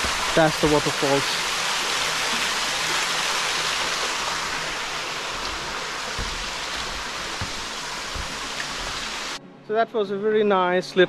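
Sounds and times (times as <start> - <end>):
waterfall splashing onto rocks: 0.0 - 9.4.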